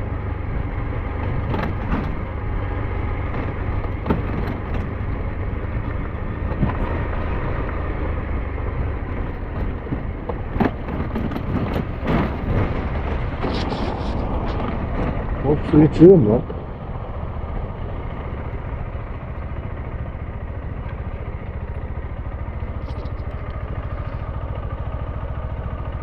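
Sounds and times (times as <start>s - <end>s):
motorcycle engine running: 0.0s - 26.0s
road and wind noise: 0.0s - 26.0s
knocks from rough road: 1.2s - 2.6s, 3.2s - 7.8s, 9.0s - 24.4s.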